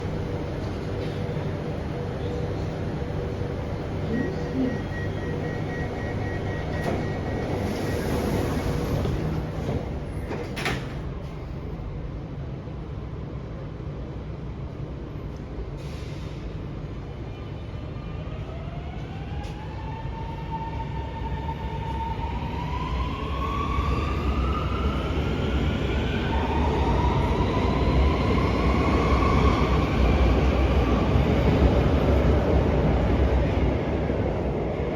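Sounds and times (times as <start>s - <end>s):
rumble of train wheels: 0.0s - 34.9s.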